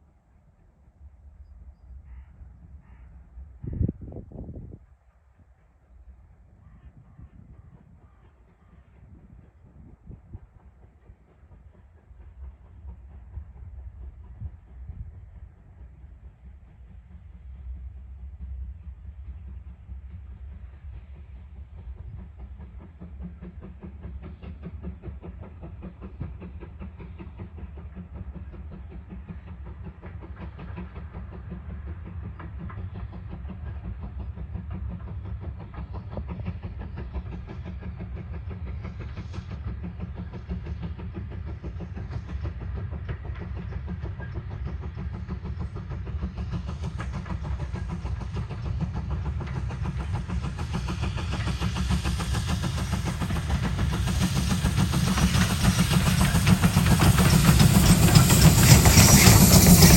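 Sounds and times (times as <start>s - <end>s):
train rumble and clatter: 0.0s - 59.9s.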